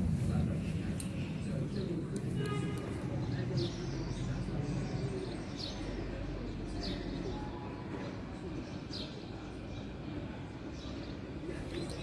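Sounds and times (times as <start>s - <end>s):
small birds chirping: 0.8s - 12.0s.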